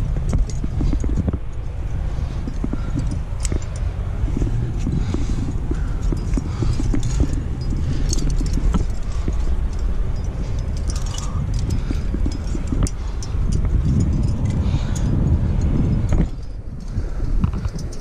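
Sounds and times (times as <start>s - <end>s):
climbing gear clinking: 0.0s - 18.0s
wind buffeting microphone: 0.0s - 18.0s.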